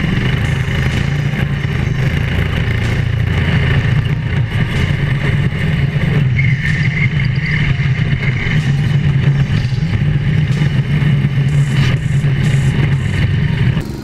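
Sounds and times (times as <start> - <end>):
kart engine running: 0.0 - 14.0.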